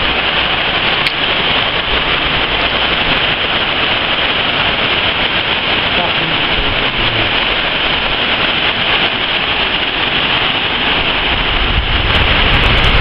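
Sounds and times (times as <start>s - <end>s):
heavy rain pouring: 0.0s - 13.0s
strong wind: 0.0s - 13.0s.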